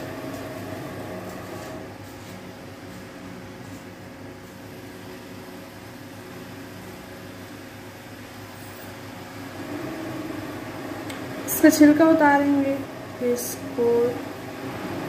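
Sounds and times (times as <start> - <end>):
machine humming and hissing: 0.0 - 15.0.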